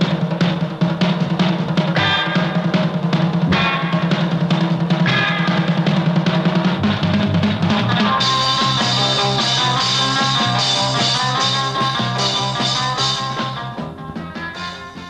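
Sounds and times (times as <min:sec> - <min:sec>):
rock music: 0:00.0 - 0:15.0
steady drum beat: 0:00.0 - 0:15.0.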